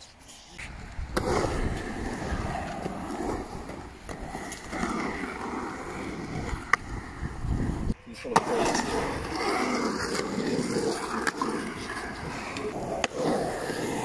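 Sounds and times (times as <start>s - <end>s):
skateboard wheels rolling on concrete: 0.0s - 14.0s
skateboard clack: 0.6s - 14.0s.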